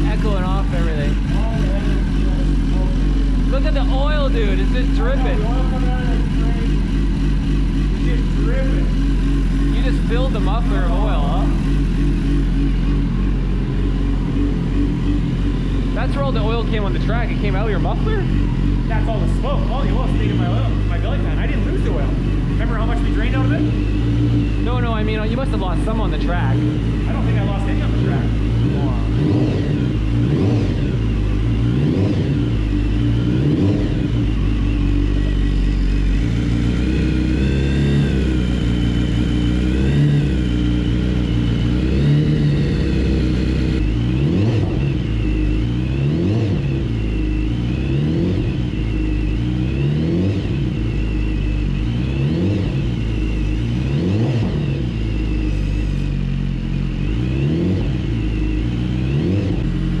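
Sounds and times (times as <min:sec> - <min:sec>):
motorcycle engine idling: 0:00.0 - 1:00.0.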